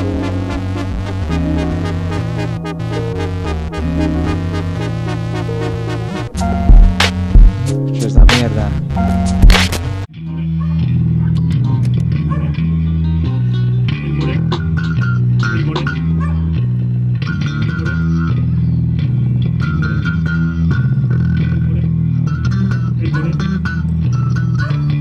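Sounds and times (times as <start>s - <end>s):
electric bass guitar notes: 0.0s - 25.0s
plucked guitar notes: 0.0s - 25.0s.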